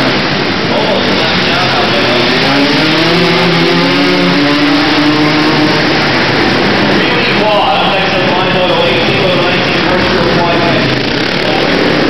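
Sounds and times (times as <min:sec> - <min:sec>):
quad engines revving: 0:00.0 - 0:12.0
steady loud din: 0:00.0 - 0:12.0.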